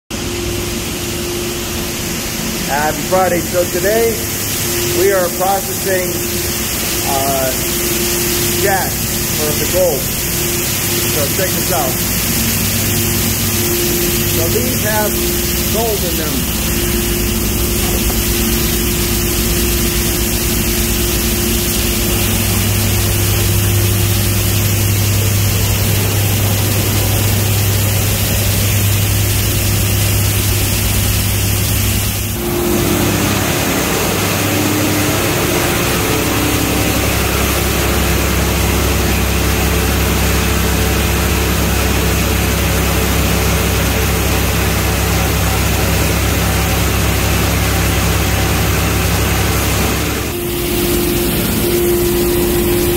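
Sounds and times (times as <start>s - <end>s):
industrial machinery drone: 0.1s - 52.9s.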